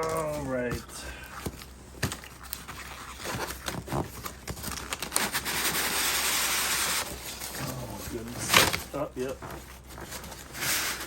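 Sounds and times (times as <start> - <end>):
scraping rustle of packing: 0.0 - 11.0.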